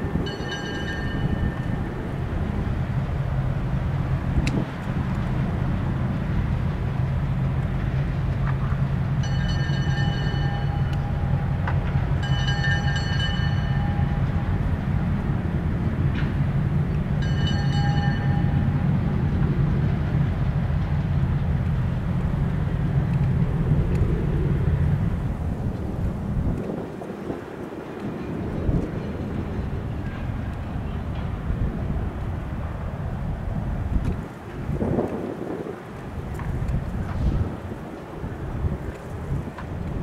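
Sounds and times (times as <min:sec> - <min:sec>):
diesel locomotive rumbling: 0:00.0 - 0:40.0.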